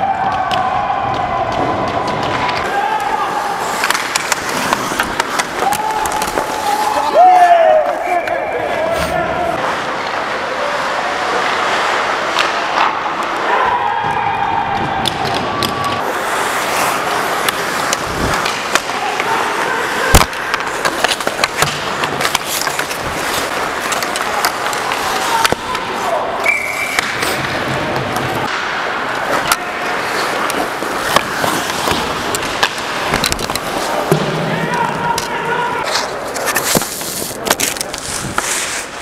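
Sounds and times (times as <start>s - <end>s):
hockey sticks and puck clacking: 0.0s - 39.0s
skates scraping on ice: 0.0s - 39.0s.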